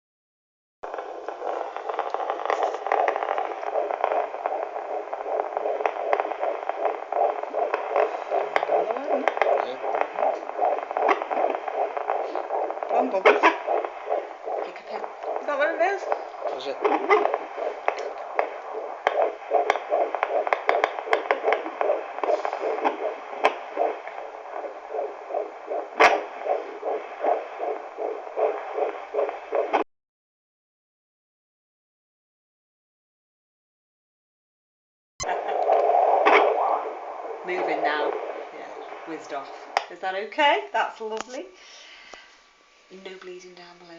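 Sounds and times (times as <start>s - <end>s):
doppler monitor hiss and crackle: 0.9s - 29.9s, 35.2s - 43.9s.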